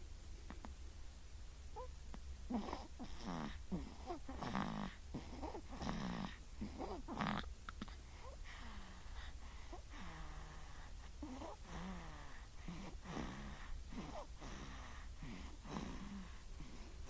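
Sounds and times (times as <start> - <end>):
baby snoring: 2.5 - 16.9.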